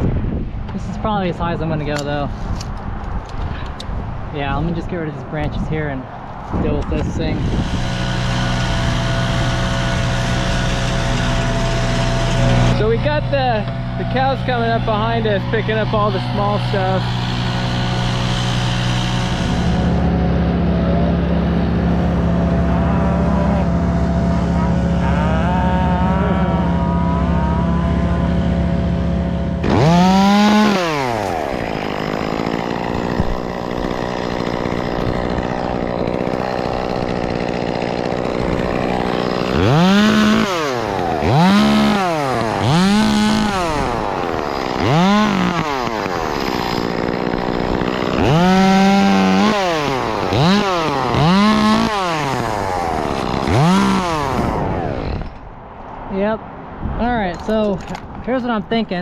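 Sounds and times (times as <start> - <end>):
chainsaw idling and revving: 6.6 - 55.4.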